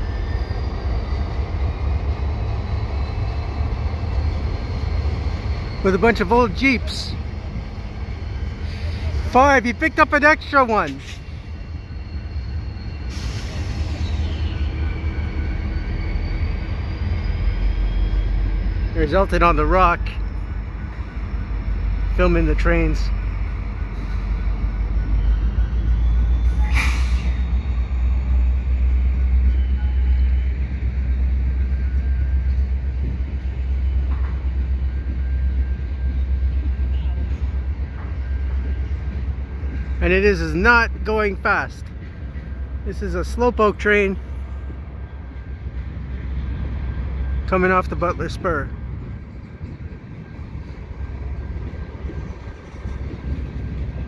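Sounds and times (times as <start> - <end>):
diesel locomotive engine drone: 0.0 - 54.0
freight cars rumbling on steel bridge: 0.0 - 54.0.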